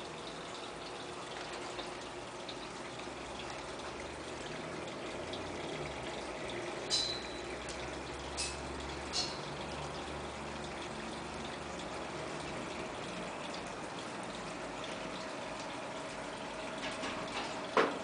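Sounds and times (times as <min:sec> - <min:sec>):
running aquarium water: 0:00.0 - 0:18.0.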